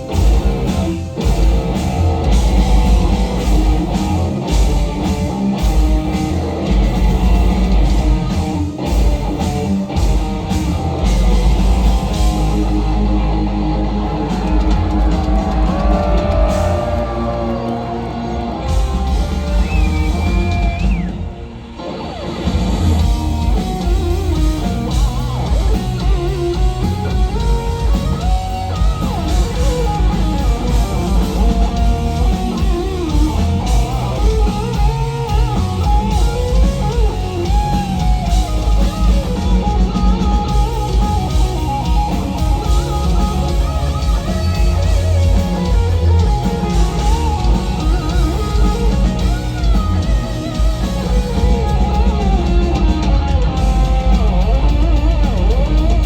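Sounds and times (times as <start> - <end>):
heavy drum kit: 0.0 - 21.7, 22.4 - 56.0
bass guitar: 0.0 - 56.0
electric guitar lead melody: 0.0 - 56.0.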